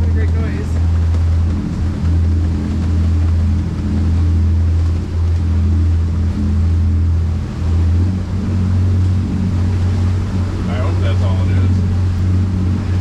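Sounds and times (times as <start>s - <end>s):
boat motor droning: 0.0s - 13.0s
water washing in rough seas: 0.0s - 13.0s.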